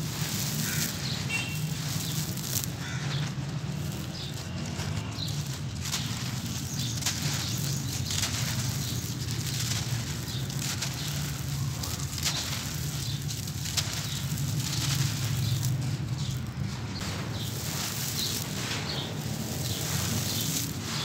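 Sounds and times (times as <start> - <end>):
cement clumps crackling by hand: 0.0 - 21.0
fingers raking through gravel: 0.0 - 21.0
grit trickling onto gravel: 0.0 - 21.0.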